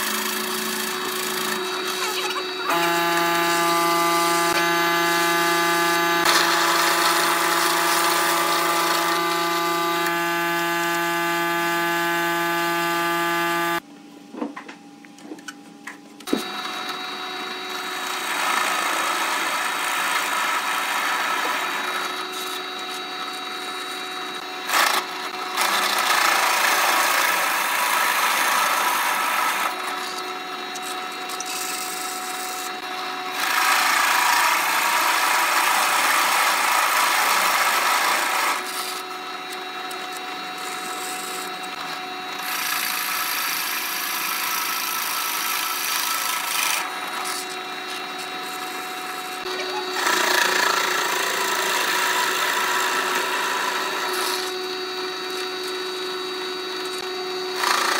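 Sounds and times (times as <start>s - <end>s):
drill bit boring into wood: 0.0s - 13.8s, 16.3s - 57.9s
drill press motor running: 0.0s - 13.8s, 16.3s - 57.9s.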